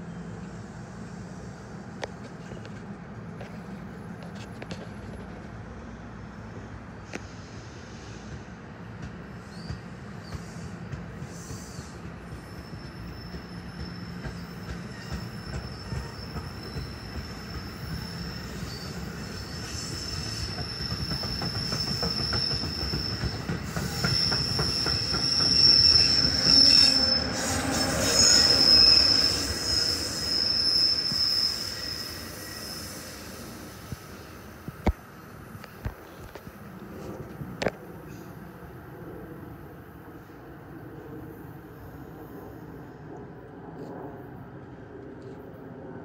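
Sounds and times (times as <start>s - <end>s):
train wheels squealing on rails: 0.0s - 5.6s, 6.3s - 44.1s.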